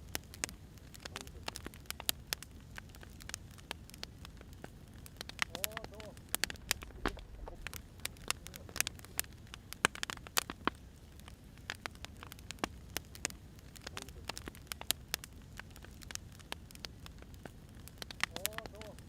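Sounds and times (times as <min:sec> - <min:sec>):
firewood crackling: 0:00.0 - 0:19.0.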